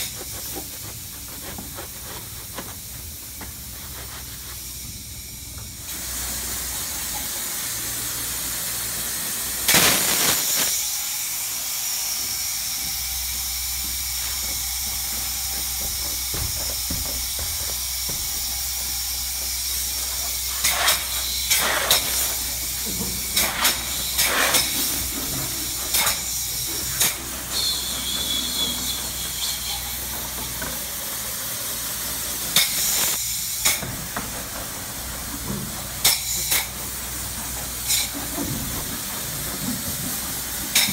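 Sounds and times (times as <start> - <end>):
spray foam gun hissing: 0.0 - 35.0.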